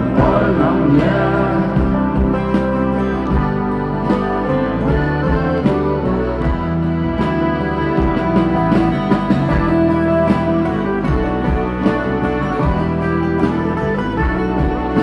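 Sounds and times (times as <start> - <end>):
acoustic rock band playing: 0.0 - 15.0
strummed twelve-string guitar: 0.0 - 15.0.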